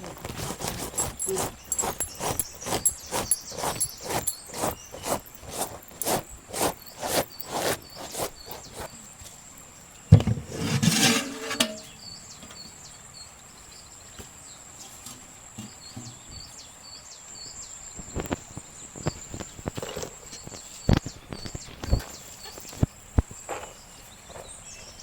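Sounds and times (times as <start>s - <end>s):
small birds chirping: 0.0s - 10.2s, 11.8s - 25.0s.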